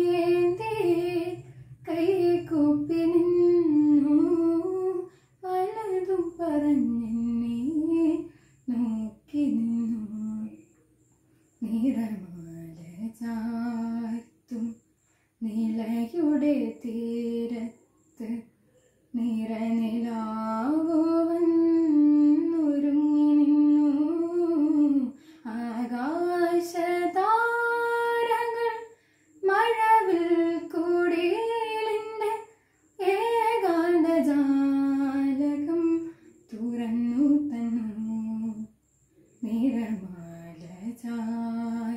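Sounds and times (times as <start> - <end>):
girl singing unaccompanied: 0.0 - 14.8, 19.1 - 41.9.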